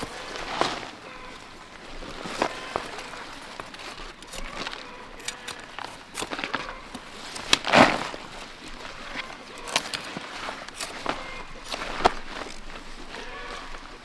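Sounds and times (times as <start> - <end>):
leaves and stems rustling: 0.0 - 14.0.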